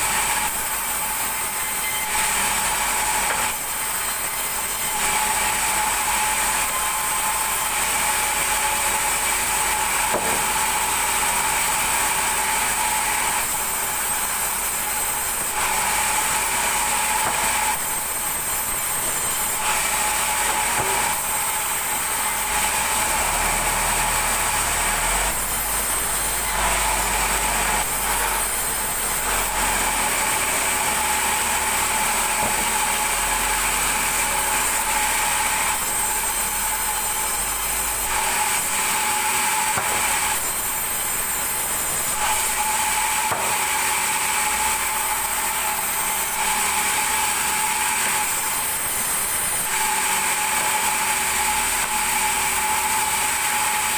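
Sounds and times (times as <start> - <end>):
band saw cutting wood: 0.0 - 53.9.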